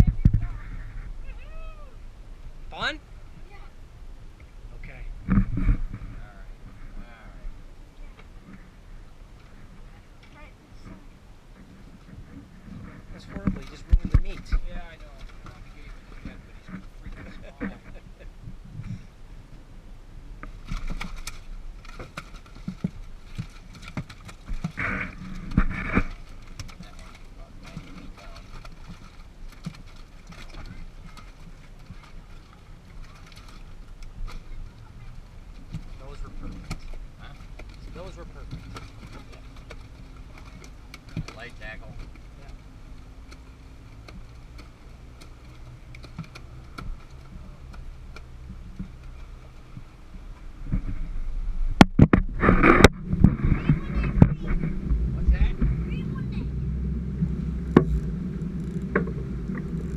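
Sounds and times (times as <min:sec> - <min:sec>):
knocks and thumps on boat: 0:00.0 - 0:01.4, 0:05.2 - 0:07.0, 0:09.7 - 0:19.0, 0:20.4 - 0:59.9
boat background noise: 0:00.0 - 0:59.9.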